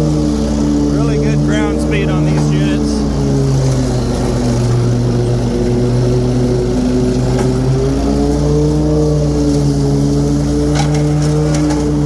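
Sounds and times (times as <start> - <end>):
lawn mower engine at high throttle: 0.0 - 12.0.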